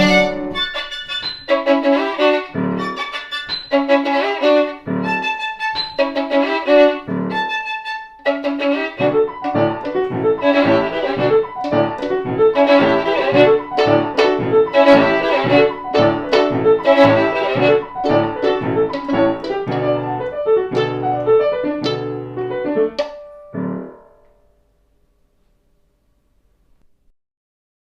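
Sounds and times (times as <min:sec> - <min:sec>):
violin playing: 0:00.0 - 0:23.2
piano accompaniment: 0:00.0 - 0:25.0.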